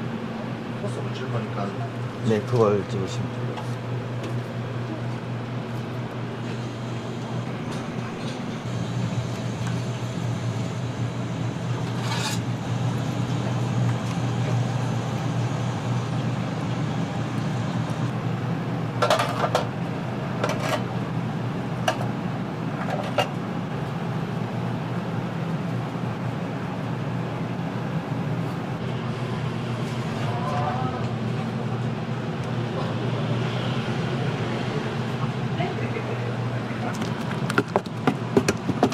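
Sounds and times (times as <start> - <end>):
kitchen equipment hum: 0.0 - 38.9.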